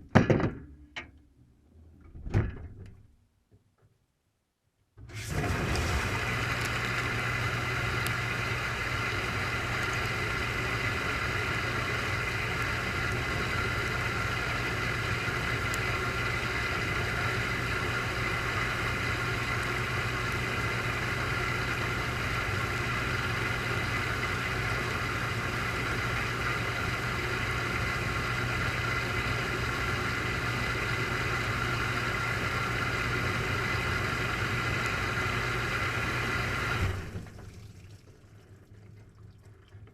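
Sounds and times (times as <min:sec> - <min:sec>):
dishwasher pump motor humming: 0:05.0 - 0:37.6.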